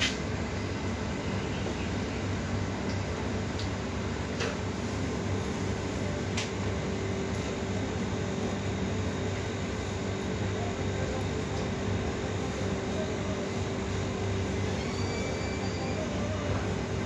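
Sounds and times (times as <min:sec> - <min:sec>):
refrigeration machinery hum: 0:00.0 - 0:17.0.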